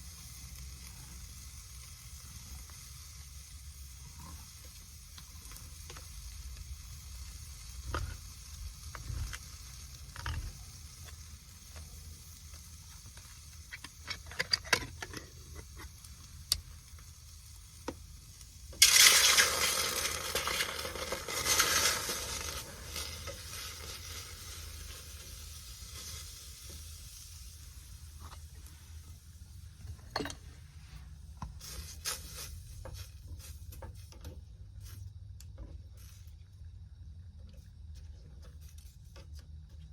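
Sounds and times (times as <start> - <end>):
onions sizzling in a pot: 0.0 - 39.9.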